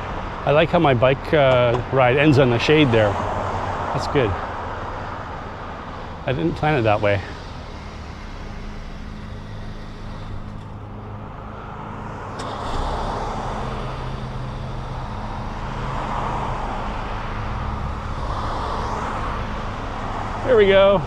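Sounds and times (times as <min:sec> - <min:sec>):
engine hum: 0:00.0 - 0:21.0
street traffic: 0:00.0 - 0:21.0.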